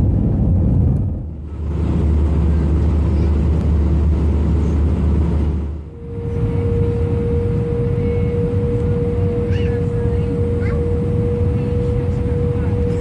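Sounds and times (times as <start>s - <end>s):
aircraft cabin engine rumble: 0.0s - 13.0s
steady whining tone: 0.0s - 13.0s.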